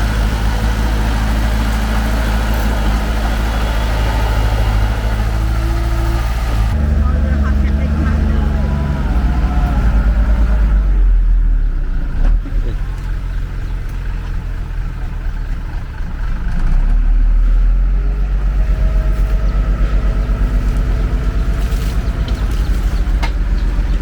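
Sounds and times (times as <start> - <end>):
heavy diesel engine rumbling: 0.0 - 24.0.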